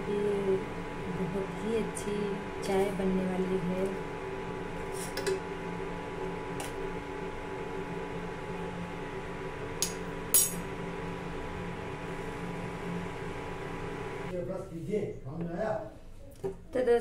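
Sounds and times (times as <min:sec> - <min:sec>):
cooktop electrical hum: 0:00.0 - 0:17.0.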